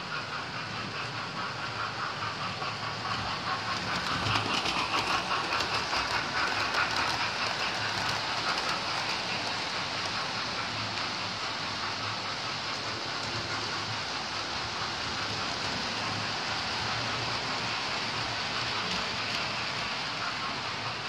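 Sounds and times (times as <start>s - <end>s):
model train running on track: 0.0s - 21.0s
wheels clicking on rails: 0.0s - 21.0s.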